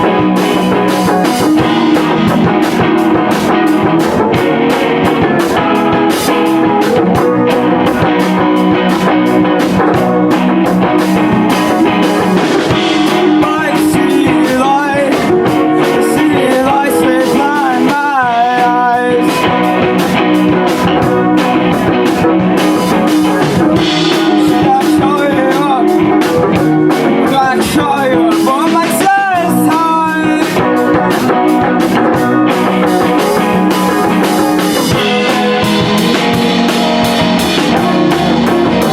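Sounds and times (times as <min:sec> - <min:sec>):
bending lead guitar line: 0:00.0 - 0:38.9
drum kit beat: 0:00.0 - 0:38.9
electric guitar: 0:00.0 - 0:38.9.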